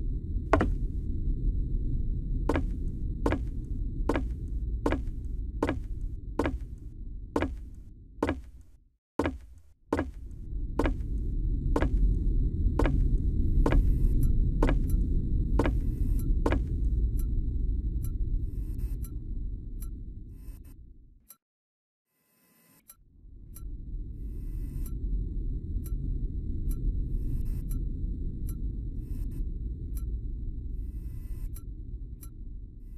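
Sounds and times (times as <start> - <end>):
low droning rumble: 0.0 - 8.6, 10.0 - 20.4, 23.2 - 32.9.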